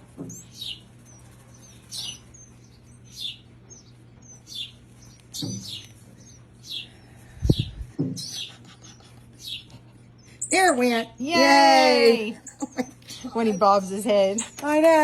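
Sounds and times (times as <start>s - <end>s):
baby birds cheeping: 0.0s - 15.0s.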